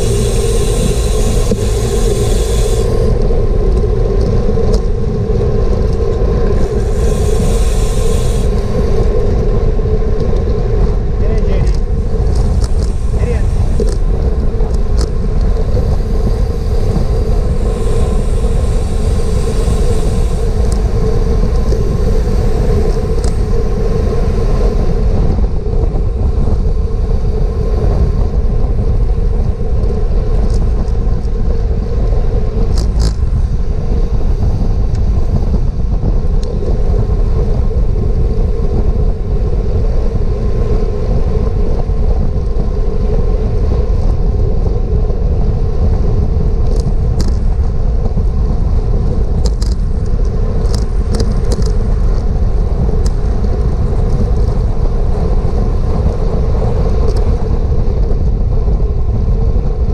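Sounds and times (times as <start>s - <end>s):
hum: 0.0s - 59.9s
wind buffeting microphone: 0.0s - 59.9s.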